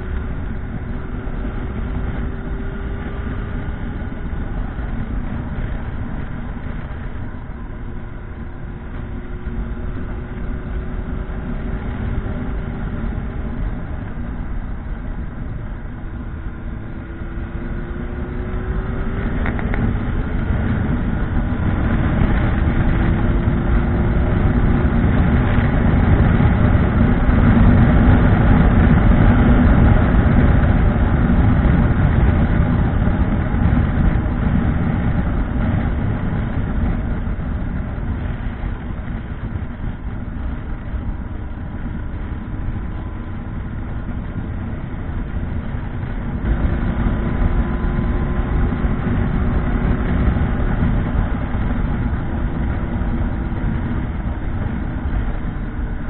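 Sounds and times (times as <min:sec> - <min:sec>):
low wind rumble: 0:00.0 - 0:56.0
motorcycle engine: 0:00.0 - 0:56.0.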